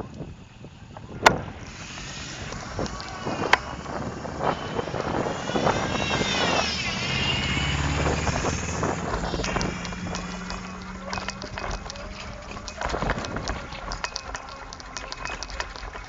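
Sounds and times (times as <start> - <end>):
bike rattling over bumps: 0.0 - 16.0
electric motor whine: 0.0 - 16.0
low hum: 0.0 - 16.0.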